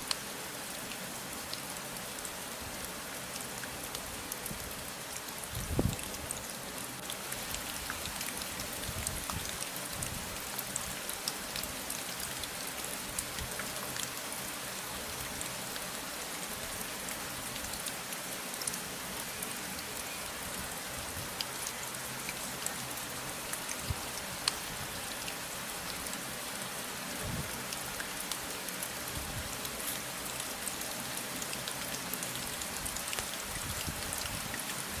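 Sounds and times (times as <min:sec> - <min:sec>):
steady rain with drop ticks: 0:00.0 - 0:35.0.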